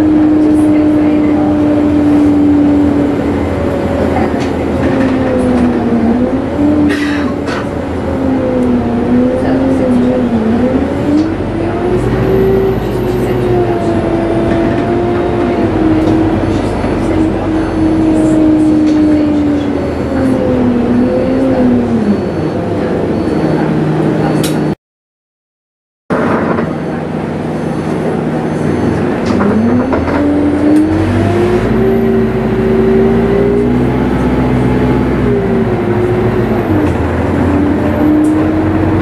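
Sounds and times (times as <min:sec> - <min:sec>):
bus engine whine: 0:00.0 - 0:24.8, 0:26.1 - 0:39.0.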